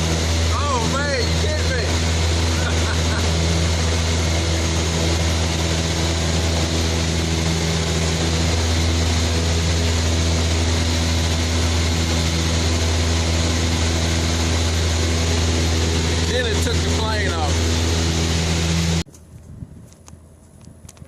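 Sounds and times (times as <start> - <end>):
propeller plane engine drone: 0.0 - 19.2.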